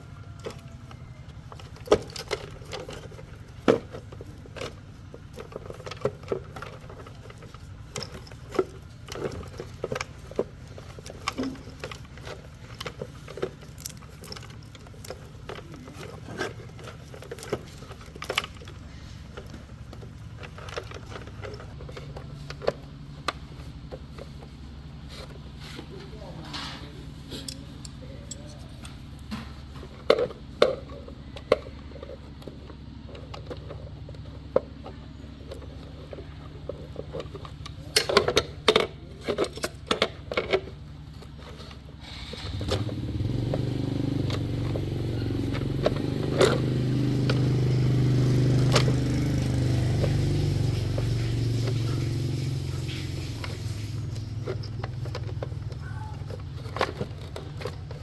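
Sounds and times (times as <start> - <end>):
handling knocks and clicks: 0.0 - 58.0
low motor hum: 0.0 - 58.0.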